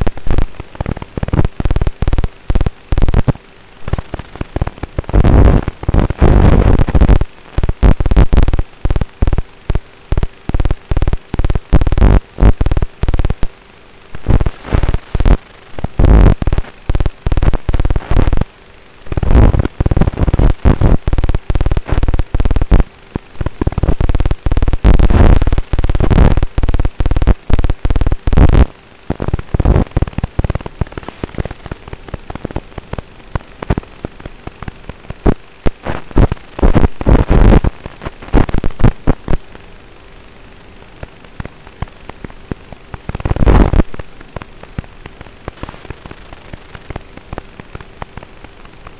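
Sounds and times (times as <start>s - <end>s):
distorted radio crackle: 0.0s - 48.9s
faint steady hum: 0.0s - 48.9s.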